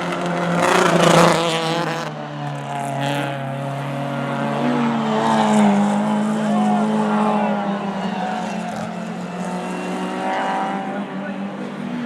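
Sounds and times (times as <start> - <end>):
racing car engine climbing in pitch: 0.0 - 12.0
racing car passing: 0.0 - 12.0.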